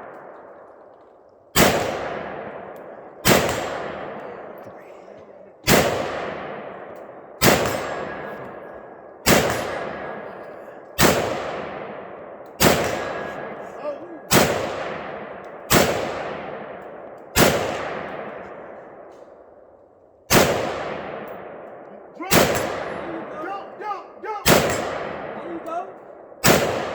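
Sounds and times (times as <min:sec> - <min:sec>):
gunshots with echoing tail: 0:00.0 - 0:26.9.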